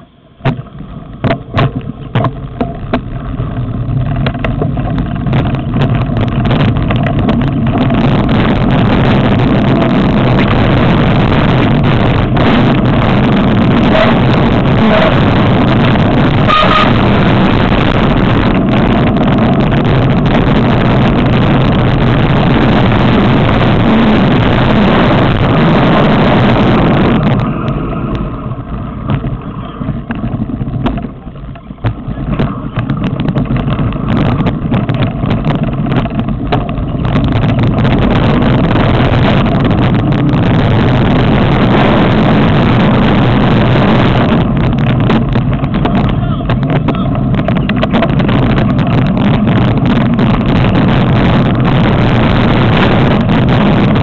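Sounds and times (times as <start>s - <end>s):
wind buffeting camera: 0.0s - 54.0s.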